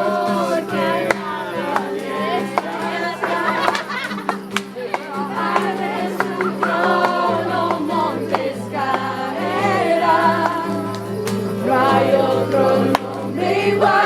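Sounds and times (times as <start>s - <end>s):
group singing worship song: 0.0s - 14.0s.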